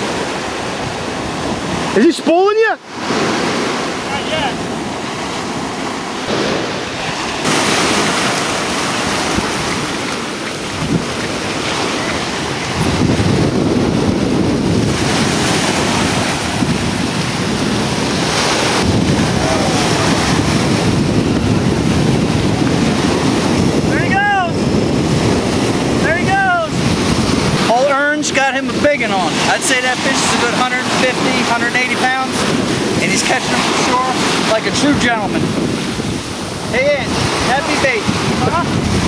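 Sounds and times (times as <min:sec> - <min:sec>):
wind buffeting microphone: 0:00.0 - 0:02.2, 0:02.8 - 0:39.0
ocean surf on a beach: 0:00.0 - 0:39.0.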